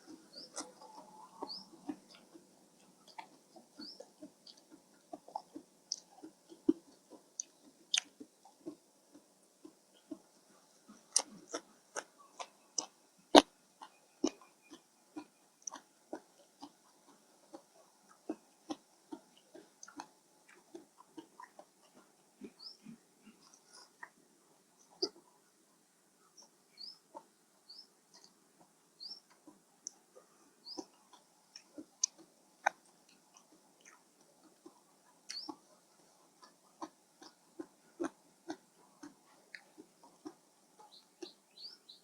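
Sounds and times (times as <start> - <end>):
person chewing food: 0.0 - 24.2, 28.1 - 41.8.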